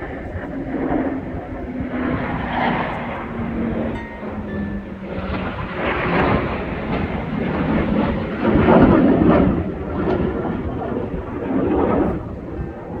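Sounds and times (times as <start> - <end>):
aircraft rumble flying past: 0.0 - 13.0.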